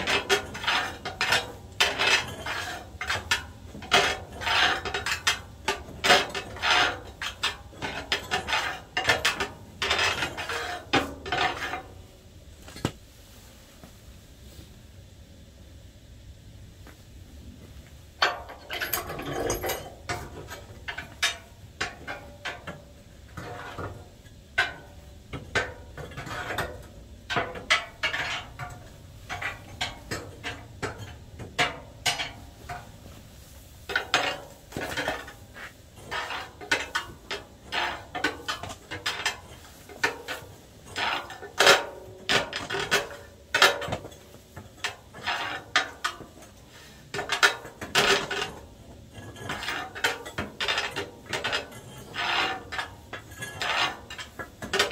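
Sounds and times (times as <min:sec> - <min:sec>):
metal parts clinking and clanking: 0:00.0 - 0:12.0, 0:18.2 - 0:33.1, 0:33.8 - 0:54.9.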